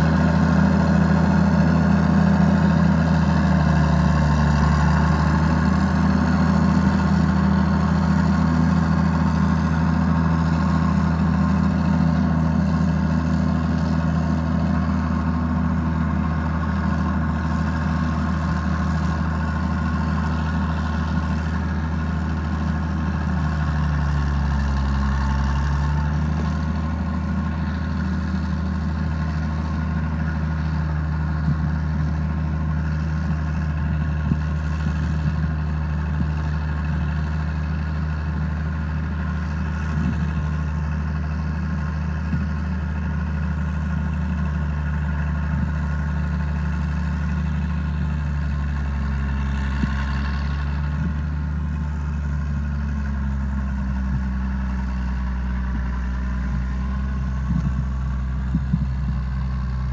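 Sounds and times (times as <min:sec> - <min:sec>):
diesel engine droning: 0:00.0 - 0:59.9.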